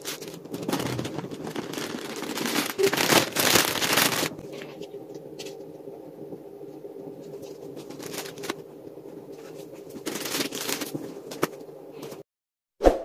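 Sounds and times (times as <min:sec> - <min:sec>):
plastic wrapping rustling: 0:00.0 - 0:05.6, 0:07.1 - 0:12.2
steady low hum: 0:00.0 - 0:12.2.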